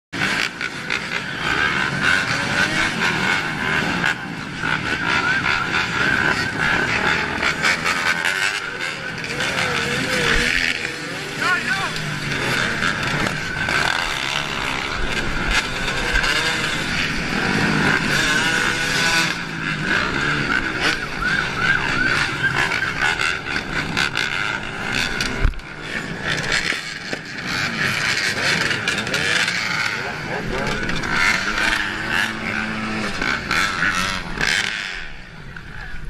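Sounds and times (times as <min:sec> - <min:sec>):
dirt bike engines revving: 0:00.2 - 0:36.0.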